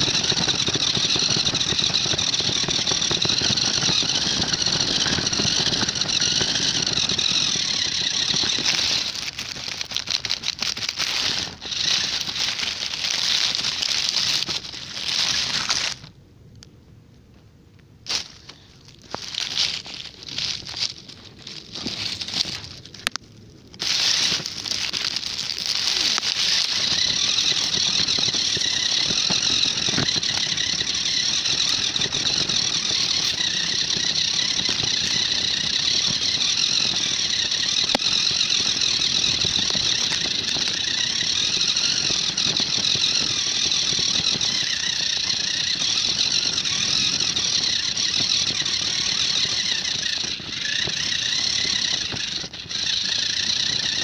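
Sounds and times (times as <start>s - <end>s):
grass scraping: 0.0s - 16.1s, 18.1s - 54.0s
toy car motor whining: 0.0s - 16.1s, 18.1s - 54.0s.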